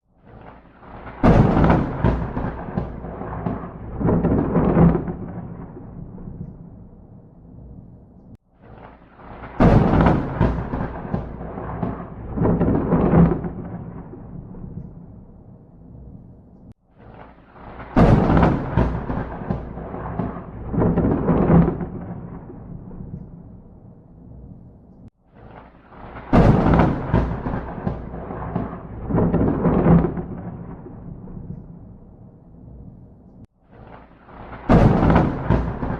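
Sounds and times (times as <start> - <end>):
rolling thunder rumble: 0.1 - 35.9
thunder crack: 0.2 - 8.0, 8.6 - 35.9.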